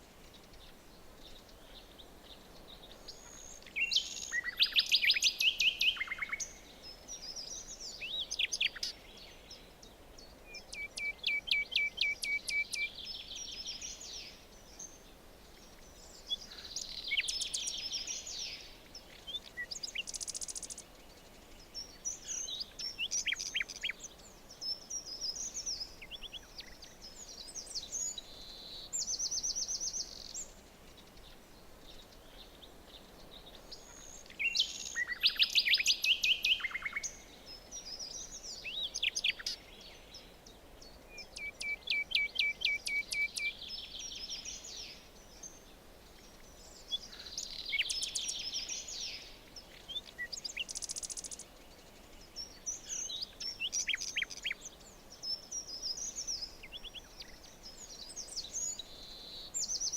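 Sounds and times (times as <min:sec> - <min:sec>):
forest background noise: 0:00.0 - 0:59.9
songbirds singing and calling: 0:00.0 - 0:59.9.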